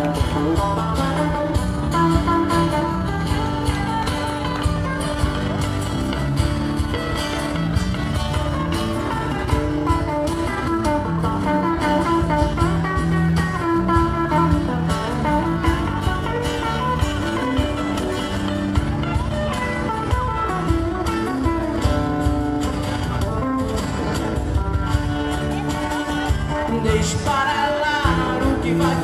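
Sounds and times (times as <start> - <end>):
bass guitar line: 0.0 - 29.0
cajon beat: 0.0 - 29.0
guitar melody: 0.0 - 29.0
guitars picked and strummed: 0.0 - 29.0.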